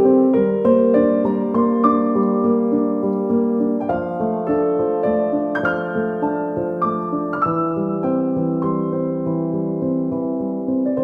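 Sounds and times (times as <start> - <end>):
gentle electric piano melody: 0.0 - 11.0.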